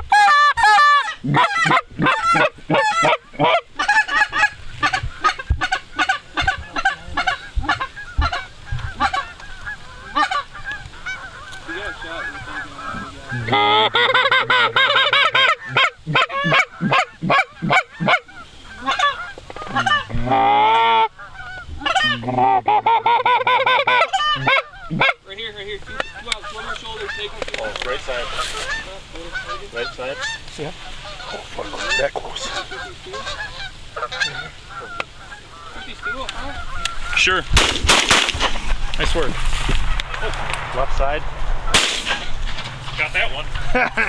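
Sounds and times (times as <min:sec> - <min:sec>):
geese honking: 0:00.0 - 0:44.0.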